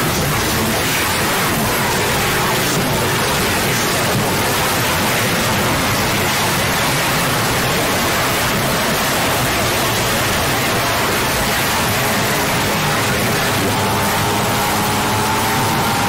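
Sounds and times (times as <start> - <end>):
harsh static hiss: 0.0 - 16.0.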